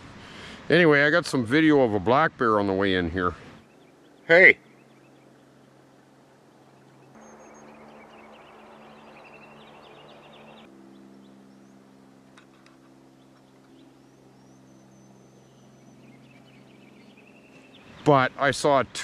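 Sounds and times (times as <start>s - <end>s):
faint low hum: 0.0s - 19.0s
small birds chirping: 2.9s - 19.0s.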